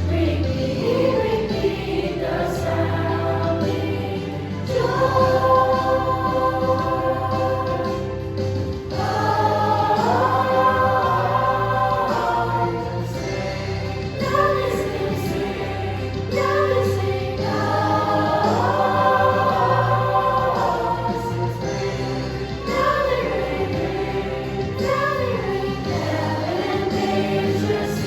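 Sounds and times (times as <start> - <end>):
bass accompaniment: 0.0 - 28.0
choir singing: 0.0 - 28.0.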